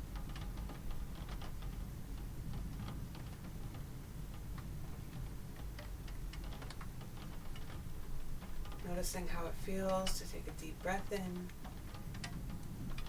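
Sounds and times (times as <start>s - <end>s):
raindrops ticking: 0.0s - 13.0s.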